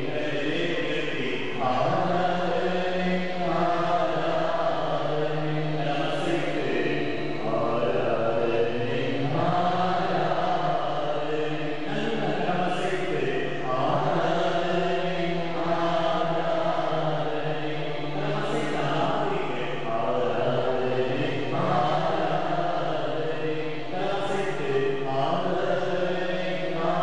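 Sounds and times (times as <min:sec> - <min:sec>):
man chanting into microphone: 0:00.0 - 0:27.0.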